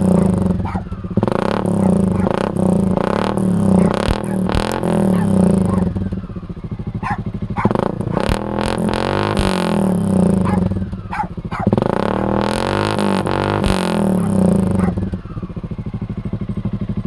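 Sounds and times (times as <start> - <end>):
single-cylinder engine revving: 0.0 - 17.0.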